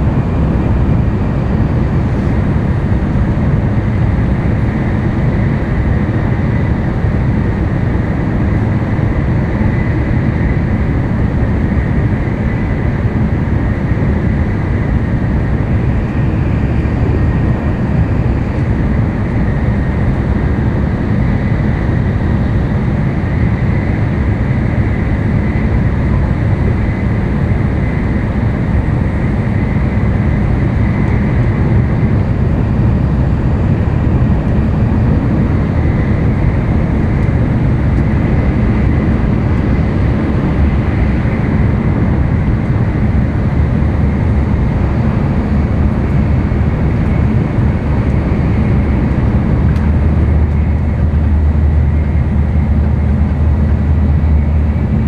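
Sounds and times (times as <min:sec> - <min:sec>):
train running noise rumble: 0:00.0 - 0:55.0.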